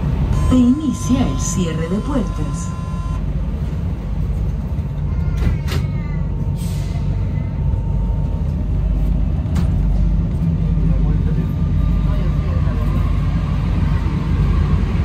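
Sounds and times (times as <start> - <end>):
train car low rumble: 0.0 - 15.0.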